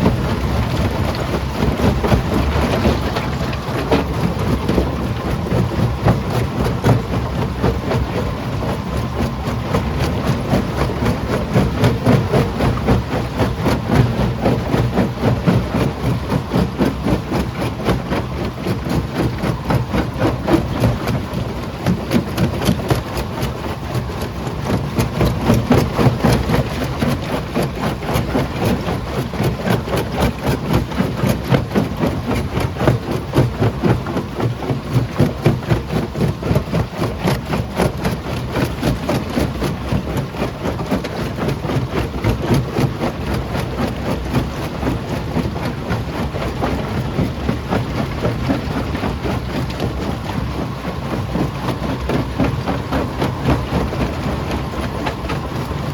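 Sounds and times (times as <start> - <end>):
machine low running noise: 0.0 - 55.9.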